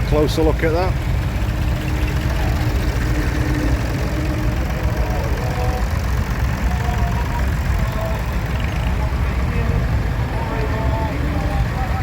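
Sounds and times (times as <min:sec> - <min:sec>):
tractor engines idling: 0:00.0 - 0:12.0.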